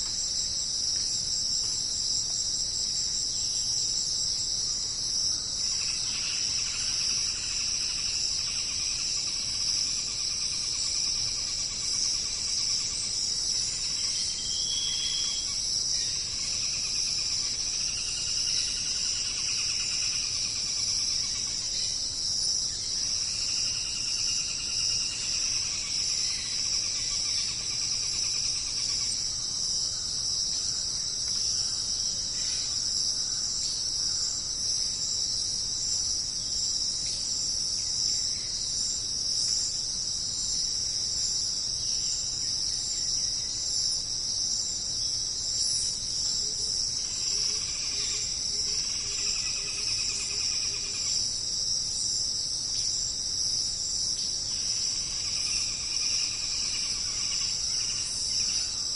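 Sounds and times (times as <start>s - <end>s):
crickets trilling: 0.0s - 58.9s
lower pulsing insect call: 0.0s - 58.9s.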